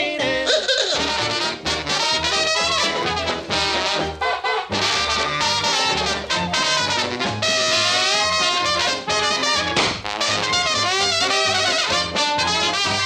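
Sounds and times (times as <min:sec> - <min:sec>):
swing band brass playing: 0:01.0 - 0:13.0.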